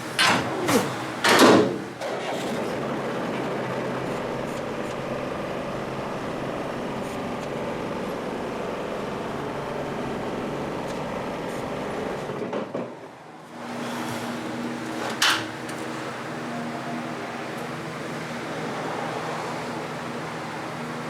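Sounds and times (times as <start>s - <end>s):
loader engine running: 0.0s - 21.0s.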